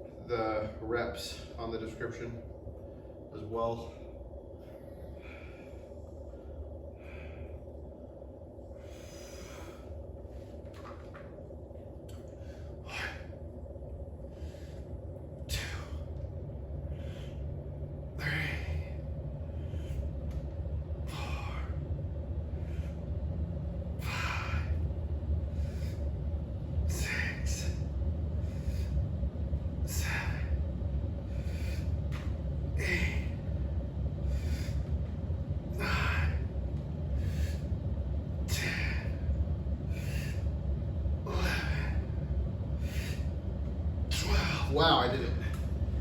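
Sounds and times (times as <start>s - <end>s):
low hum: 0.0s - 46.0s
man breathing hard: 2.8s - 10.9s, 12.1s - 23.3s, 23.9s - 29.1s, 29.8s - 40.6s, 41.2s - 43.5s.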